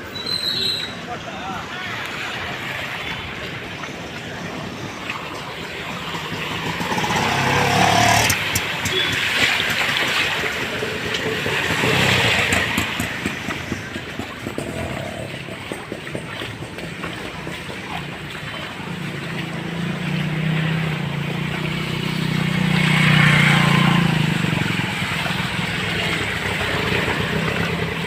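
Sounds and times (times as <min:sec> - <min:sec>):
vehicles passing: 0:00.0 - 0:28.0
tyres hissing through water: 0:00.1 - 0:28.0.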